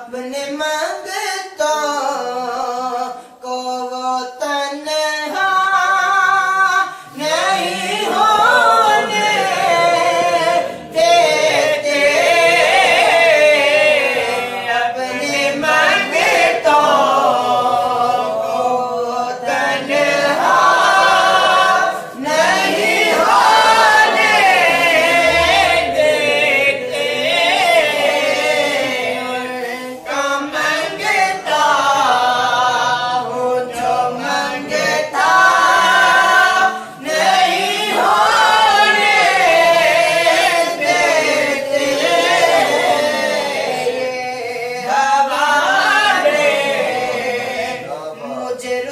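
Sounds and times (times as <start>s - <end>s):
voices singing unaccompanied: 0.0s - 48.9s.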